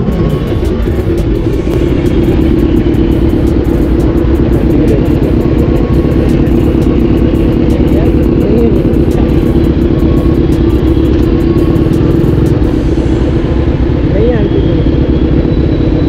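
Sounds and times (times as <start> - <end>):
motorcycles idling: 0.0 - 16.0.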